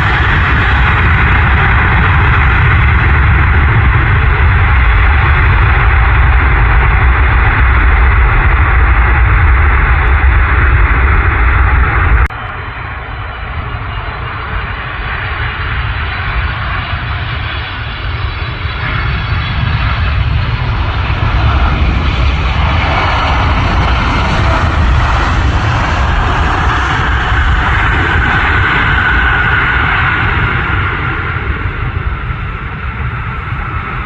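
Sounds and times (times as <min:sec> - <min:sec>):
aircraft engine rumble: 0:00.0 - 0:34.0.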